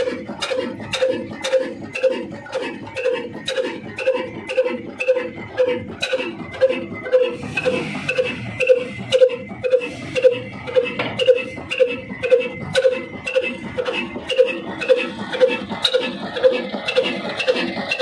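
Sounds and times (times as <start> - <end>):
diesel engine puffing slowly: 0.0 - 18.0.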